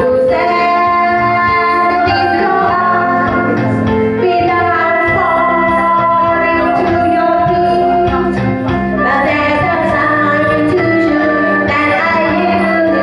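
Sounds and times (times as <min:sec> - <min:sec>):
backing music: 0:00.0 - 0:13.0
woman singing into microphone: 0:00.0 - 0:13.0.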